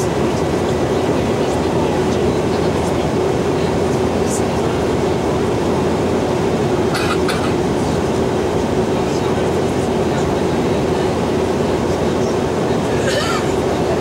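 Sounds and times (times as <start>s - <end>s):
airplane cabin noise: 0.0s - 14.0s.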